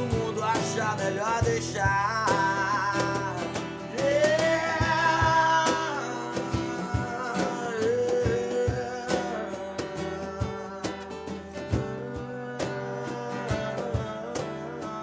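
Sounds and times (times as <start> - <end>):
drum hits: 0.0 - 12.6
guitar: 0.0 - 15.0.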